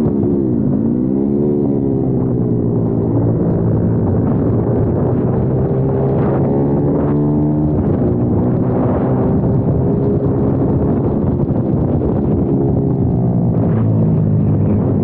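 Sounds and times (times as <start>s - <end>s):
motorbike engine running hard: 0.0s - 15.0s.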